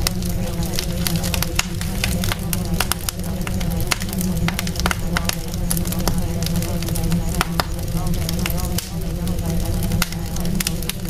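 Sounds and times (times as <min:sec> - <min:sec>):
fire crackling and popping: 0:00.0 - 0:11.0
steady low rumble: 0:00.0 - 0:11.0.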